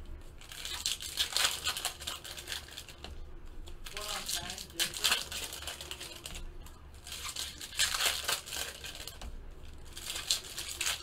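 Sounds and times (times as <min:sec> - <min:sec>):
foil wrappers tearing and crinkling: 0:00.4 - 0:03.1, 0:03.8 - 0:11.0.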